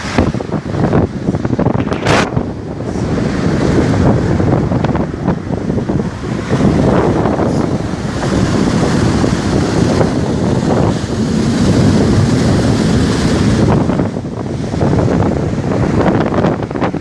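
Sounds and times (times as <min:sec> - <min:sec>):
sea waves breaking: 0:00.0 - 0:17.0
wind buffeting microphone: 0:00.0 - 0:17.0.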